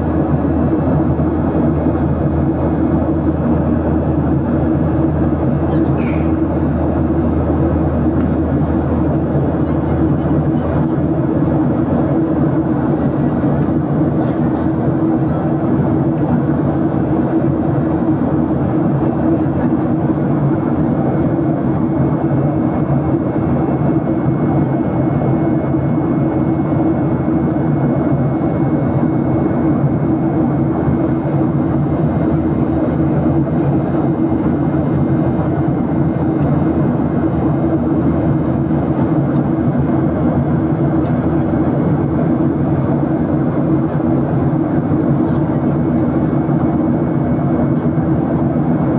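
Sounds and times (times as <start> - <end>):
airplane engines droning: 0.0 - 48.9.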